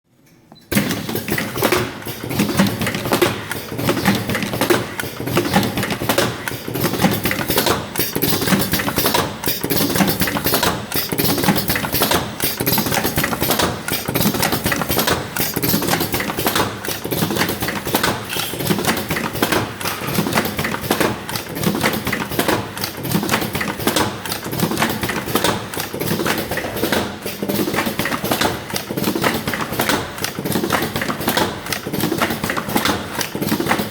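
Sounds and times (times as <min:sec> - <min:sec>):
machine clattering: 0:00.7 - 0:33.9.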